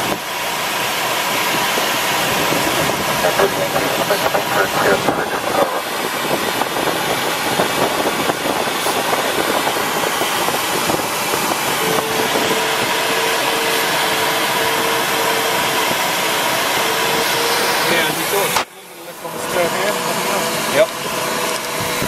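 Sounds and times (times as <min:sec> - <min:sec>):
rush of air over canopy: 0:00.0 - 0:22.0.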